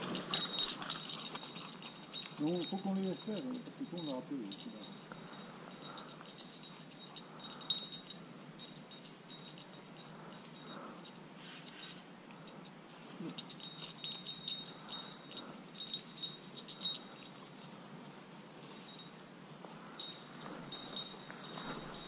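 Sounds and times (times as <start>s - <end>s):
rustling in dry leaves: 0.0s - 10.7s, 12.8s - 22.0s
dog collar bell jingling: 0.0s - 22.0s.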